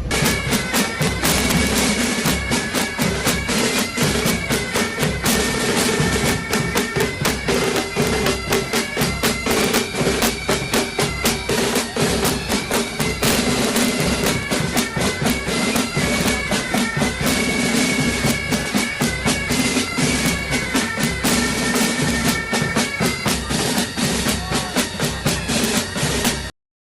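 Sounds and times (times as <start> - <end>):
bagpipes playing melody over drone: 0.0 - 26.5
snare drum beat: 0.0 - 26.5.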